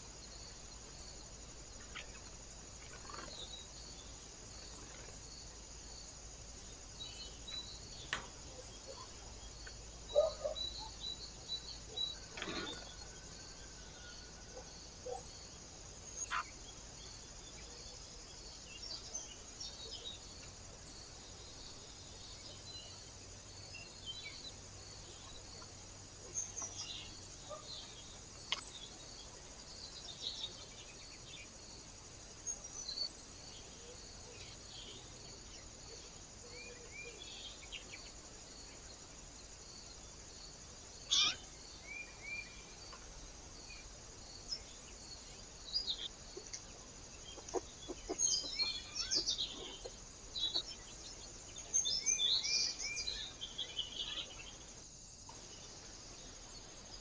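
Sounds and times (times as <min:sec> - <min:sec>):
small birds chirping: 0:00.0 - 0:13.8, 0:14.6 - 0:57.0
steady high hiss: 0:00.0 - 0:57.0.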